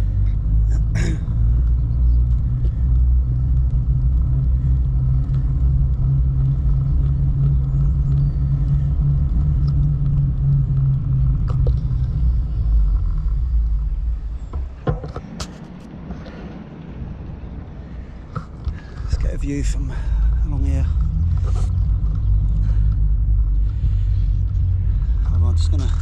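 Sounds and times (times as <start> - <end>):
loud low rumble: 0.0 - 26.0.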